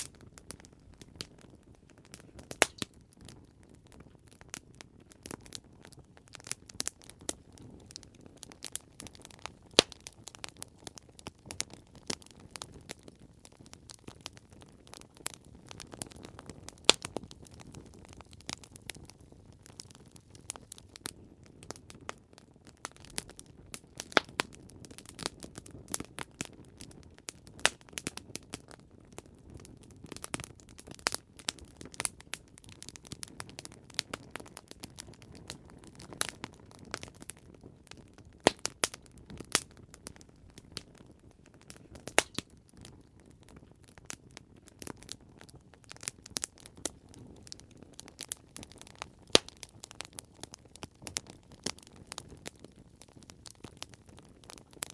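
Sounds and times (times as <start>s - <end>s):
campfire crackling and popping: 0.0s - 54.9s
low rumble of flames: 0.0s - 54.9s.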